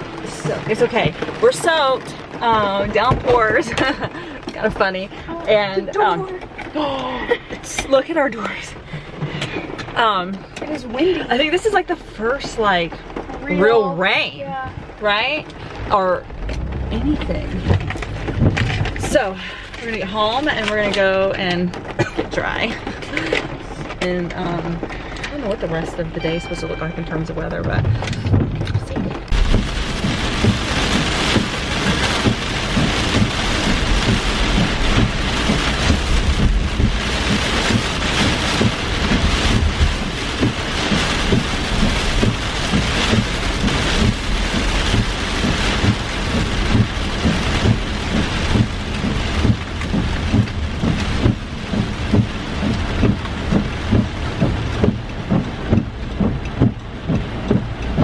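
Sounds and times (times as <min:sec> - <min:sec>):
heavy rain on car windshield: 0:00.0 - 0:58.0
low road rumble: 0:00.0 - 0:58.0
windshield wipers sweeping: 0:00.0 - 0:58.0.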